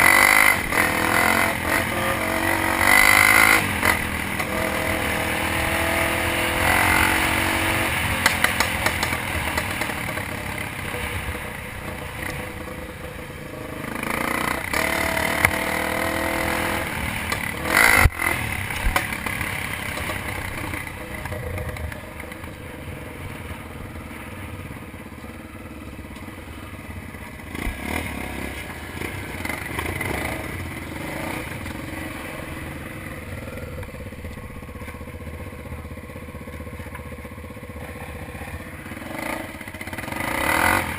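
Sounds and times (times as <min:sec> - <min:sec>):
dirt bike engine revving: 0:00.0 - 0:25.6, 0:27.0 - 0:34.8, 0:37.7 - 0:40.9.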